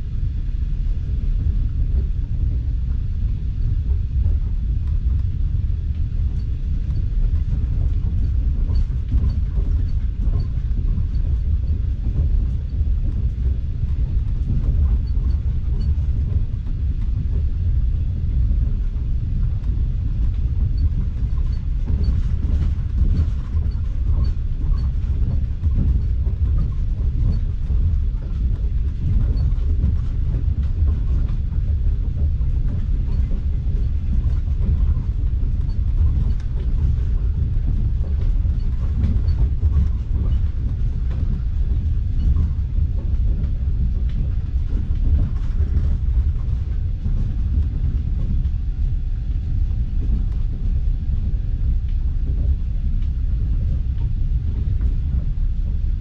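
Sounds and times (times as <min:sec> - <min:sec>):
train carriage rumbling on track: 0:00.0 - 0:56.0.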